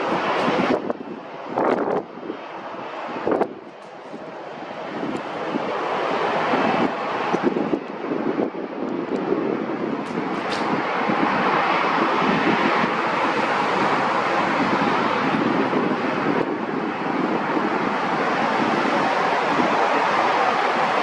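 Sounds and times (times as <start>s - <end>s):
jet engine roar: 0.0s - 21.0s
wind buffeting microphone: 0.0s - 21.0s.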